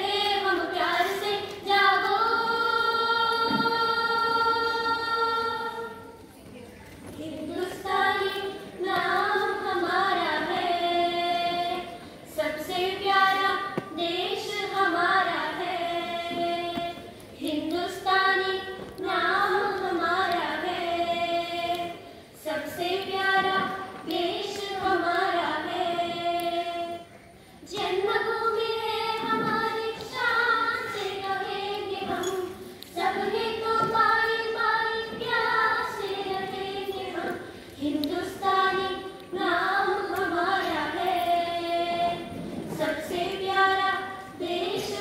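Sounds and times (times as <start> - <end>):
girls singing together: 0.0 - 6.3, 7.0 - 45.0.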